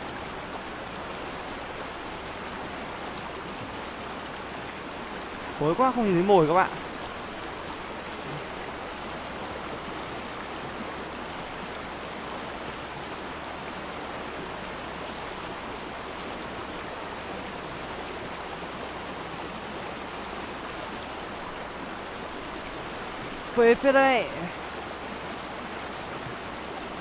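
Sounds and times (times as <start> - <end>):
stream rushing over stones: 0.0 - 27.0.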